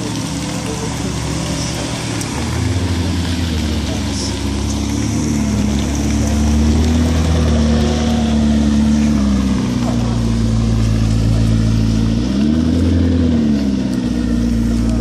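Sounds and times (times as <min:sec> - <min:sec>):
car engine passing by: 0:00.0 - 0:15.0.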